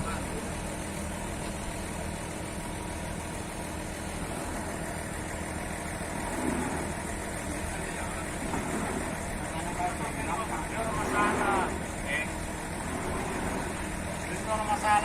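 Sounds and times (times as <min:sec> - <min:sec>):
motor engine idling: 0:00.0 - 0:15.0.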